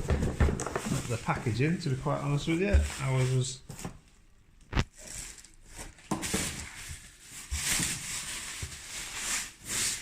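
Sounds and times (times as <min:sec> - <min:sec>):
packaging rustling: 0:00.0 - 0:04.1, 0:04.8 - 0:10.0.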